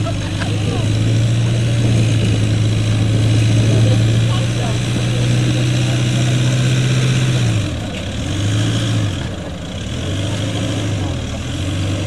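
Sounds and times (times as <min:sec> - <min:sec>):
engine throttle bursts: 0:00.0 - 0:12.0
truck engine pulling under load: 0:00.0 - 0:12.0.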